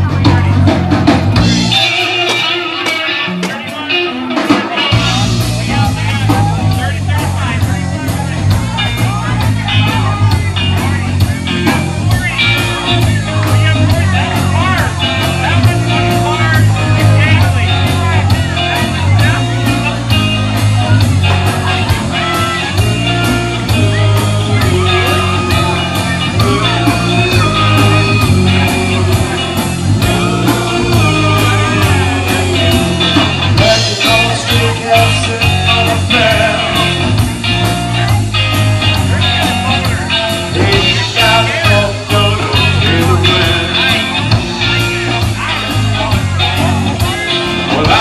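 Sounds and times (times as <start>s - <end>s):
man singing: 0.0s - 37.4s, 39.0s - 48.0s
bass guitar: 0.0s - 48.0s
drums beating: 0.0s - 48.0s
electric guitars: 0.0s - 48.0s.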